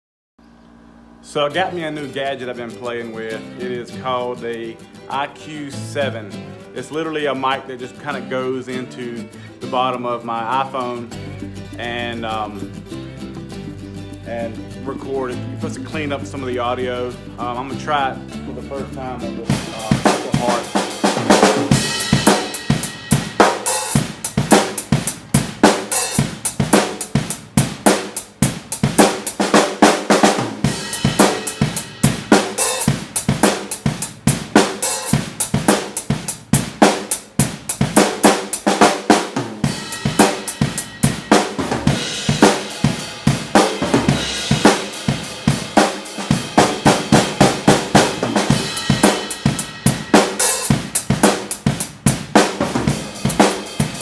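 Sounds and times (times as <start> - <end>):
acoustic drum kit groove: 1.3 - 54.0.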